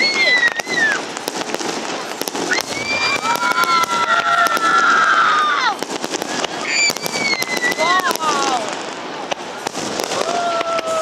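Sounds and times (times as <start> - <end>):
firework whistles: 0.0 - 11.0
fireworks crackling and popping: 0.0 - 11.0.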